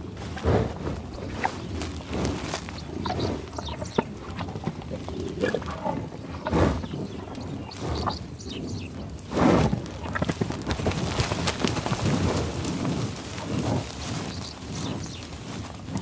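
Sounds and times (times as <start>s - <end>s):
bison grunting: 0.0s - 16.0s.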